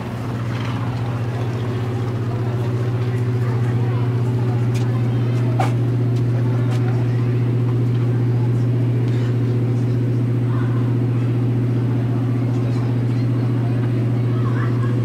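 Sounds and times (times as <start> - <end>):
machinery low hum: 0.0 - 15.0.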